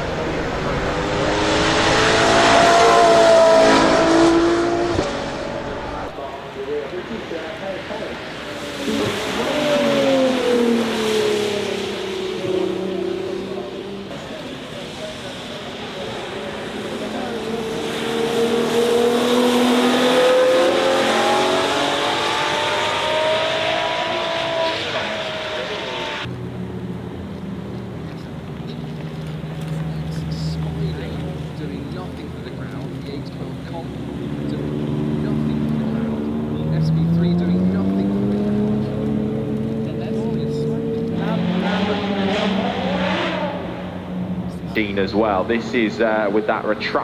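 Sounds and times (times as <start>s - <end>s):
car engine passing by: 0.0s - 47.0s.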